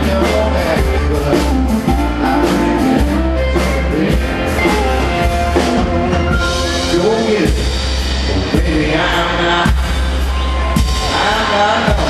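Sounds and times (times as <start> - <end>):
live country band playing: 0.0 - 12.0.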